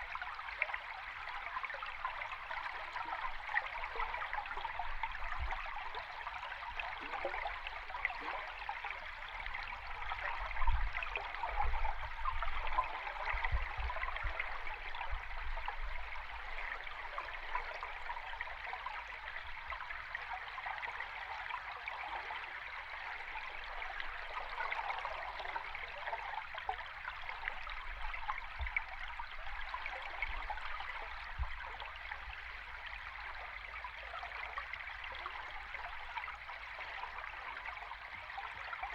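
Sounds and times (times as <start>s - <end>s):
underwater stream flow: 0.0s - 38.9s.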